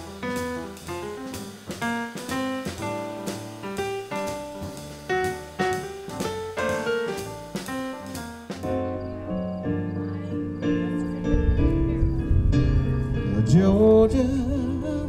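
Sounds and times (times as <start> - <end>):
bass line: 0.0 - 15.0
jazz piano: 0.0 - 15.0.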